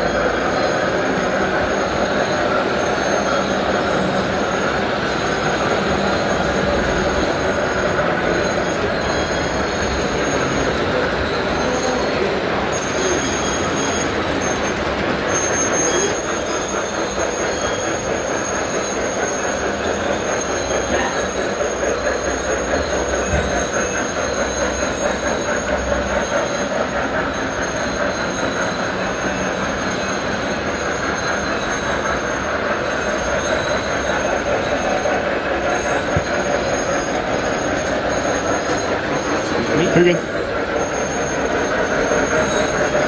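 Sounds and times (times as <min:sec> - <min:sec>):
model train wheels rattling on rail: 0:00.0 - 0:43.0.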